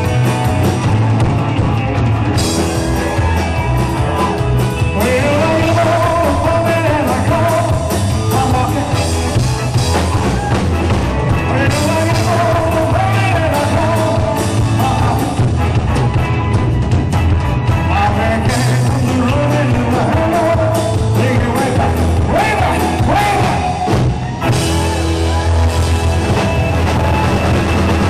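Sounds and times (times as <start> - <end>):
drum kit driving beat: 0.0 - 28.0
live rock band playing: 0.0 - 28.0.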